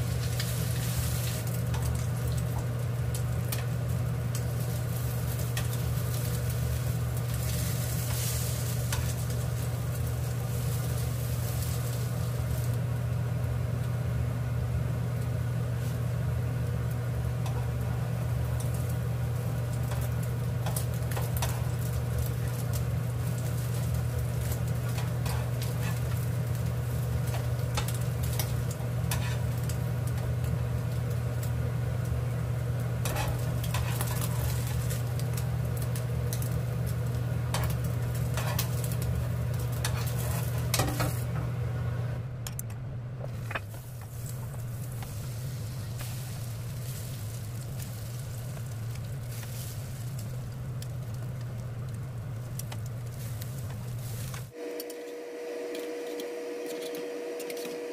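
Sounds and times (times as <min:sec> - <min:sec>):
bread sizzling in a pan: 0:00.0 - 0:42.2, 0:43.3 - 0:57.9
low hum: 0:00.0 - 0:57.9.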